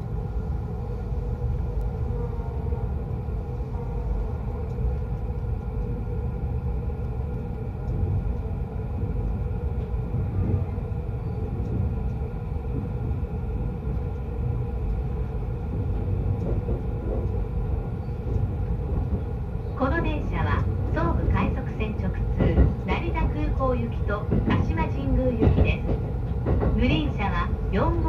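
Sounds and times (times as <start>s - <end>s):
constant hum: 0.0s - 28.0s
train wheels rumbling on track: 0.0s - 28.0s.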